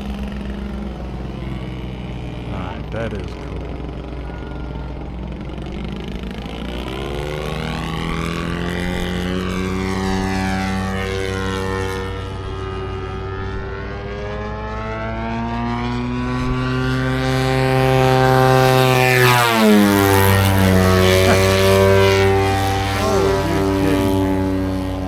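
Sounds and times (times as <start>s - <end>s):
model airplane engine and propeller: 0.0s - 25.0s.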